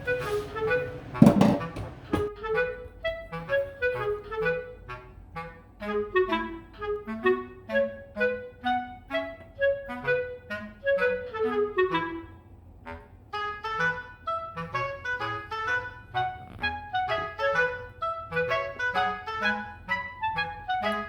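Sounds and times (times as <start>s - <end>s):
light background music: 0.0s - 12.3s, 13.4s - 21.0s
bouncy woodwind tune: 0.0s - 21.0s.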